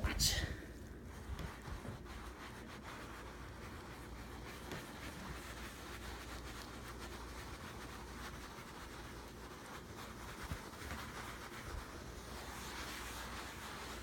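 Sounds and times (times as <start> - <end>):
sponge rubbing on leather: 0.2 - 14.0.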